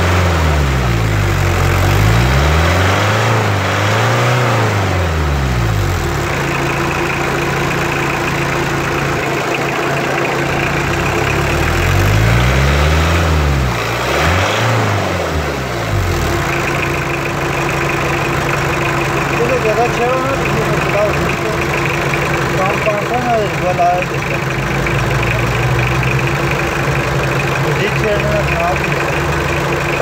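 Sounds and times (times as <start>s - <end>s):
diesel engine revving and idling: 0.0s - 30.0s.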